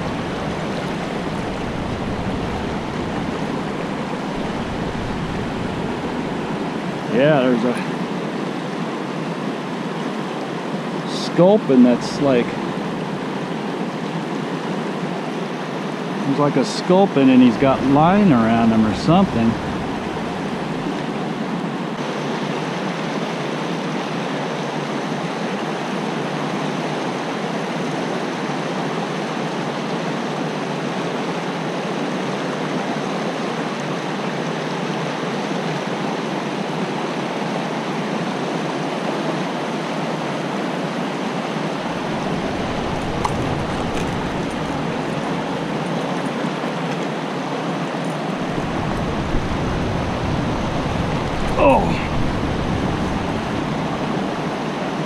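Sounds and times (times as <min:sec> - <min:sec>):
creek water rushing over rocks: 0:00.0 - 0:55.0.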